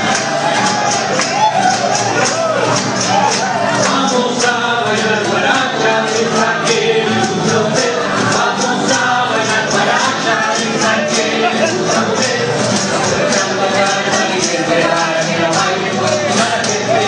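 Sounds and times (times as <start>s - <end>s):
group of voices singing: 0.0s - 17.0s
quick percussion beat: 0.0s - 17.0s.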